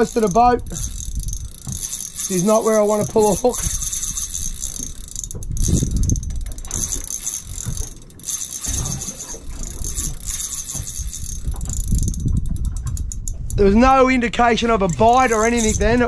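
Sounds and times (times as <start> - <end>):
fishing reel whirring and clicking: 0.0 - 13.9, 14.7 - 16.0.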